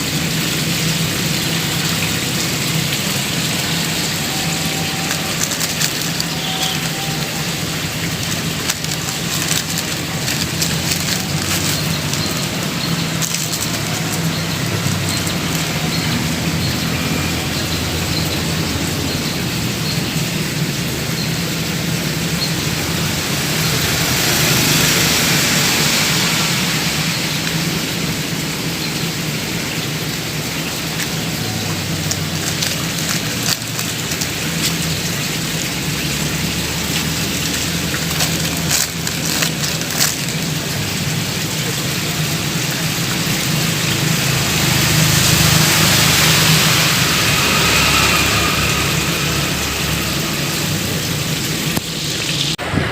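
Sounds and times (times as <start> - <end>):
rushing water: 0.0 - 52.9.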